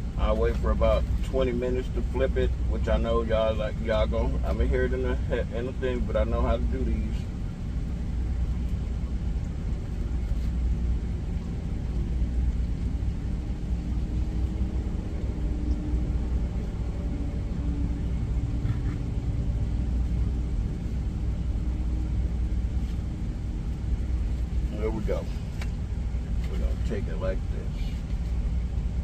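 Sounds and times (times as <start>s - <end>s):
faint steady hum: 0.0s - 29.0s
truck engine rumble: 0.0s - 29.0s.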